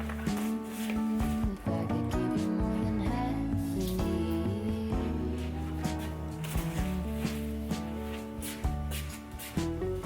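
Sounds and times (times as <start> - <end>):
gentle pop song: 0.0 - 10.0.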